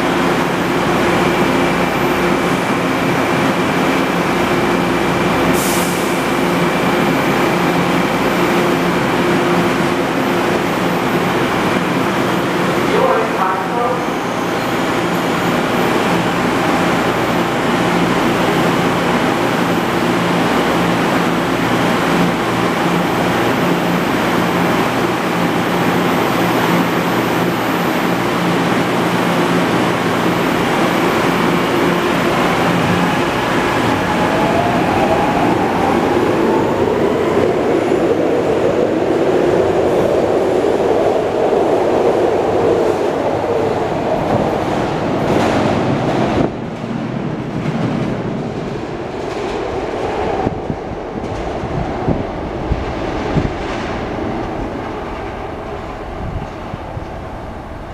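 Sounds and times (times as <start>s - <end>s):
subway train equipment humming: 0.0s - 57.9s
train cars rumbling: 0.0s - 57.9s.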